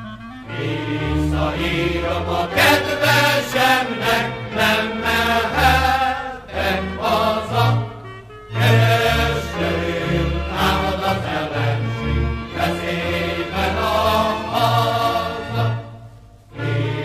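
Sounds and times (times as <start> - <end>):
choir singing: 0.4 - 17.0.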